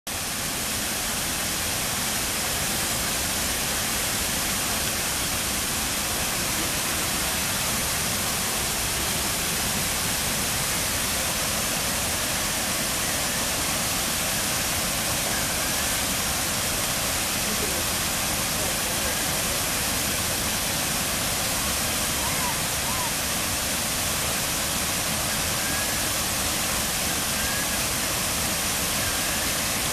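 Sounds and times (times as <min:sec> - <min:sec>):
waterfall roaring: 0:00.1 - 0:29.9.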